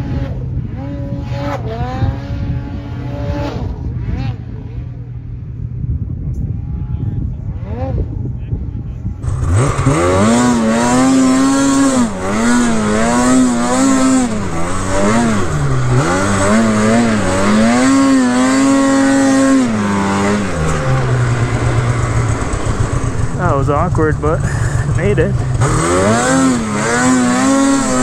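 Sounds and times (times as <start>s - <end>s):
snowmobile engine revving: 0.0s - 5.2s, 9.2s - 28.0s.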